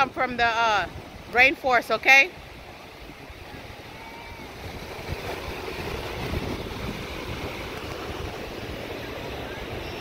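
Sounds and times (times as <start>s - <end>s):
ocean surf washing onto shore: 0.0s - 10.0s
wind buffeting microphone: 0.0s - 10.0s.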